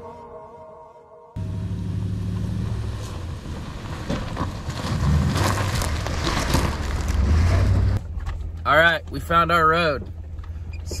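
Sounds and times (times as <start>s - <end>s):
engine and tyres rumbling: 1.4s - 11.0s
vehicle rattling over bumps: 1.4s - 11.0s.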